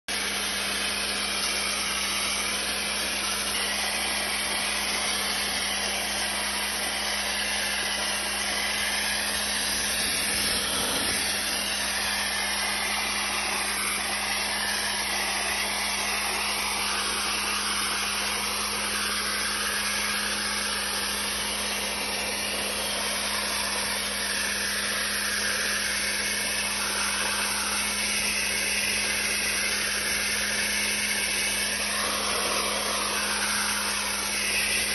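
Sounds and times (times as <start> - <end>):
dry ice blasting gun spraying: 0.1 - 34.9.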